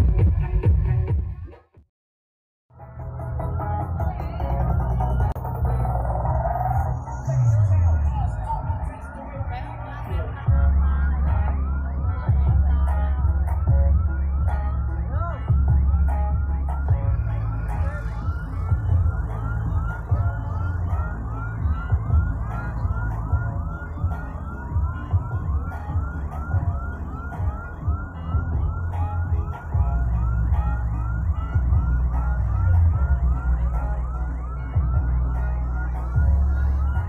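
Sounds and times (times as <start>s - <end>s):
heavy bass music from sound system: 0.0s - 1.7s, 2.7s - 37.0s
siren-like yelp: 3.8s - 37.0s.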